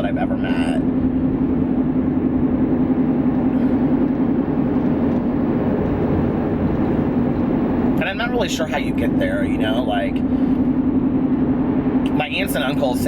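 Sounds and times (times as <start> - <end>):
car road and engine noise: 0.0 - 13.0
low hum: 0.0 - 13.0.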